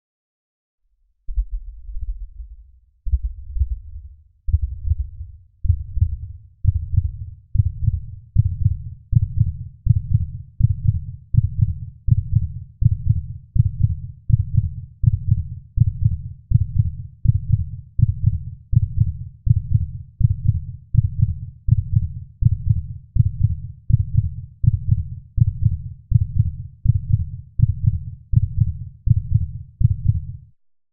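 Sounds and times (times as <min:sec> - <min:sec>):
heartbeat thumps: 0:01.3 - 0:30.3.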